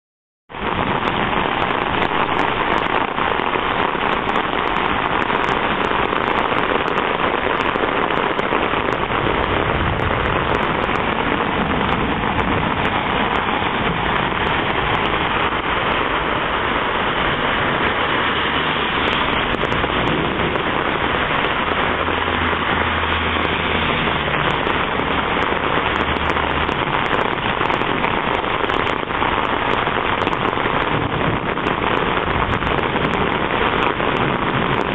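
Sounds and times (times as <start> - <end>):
heavy rain and hail pelting: 0.5 - 34.9.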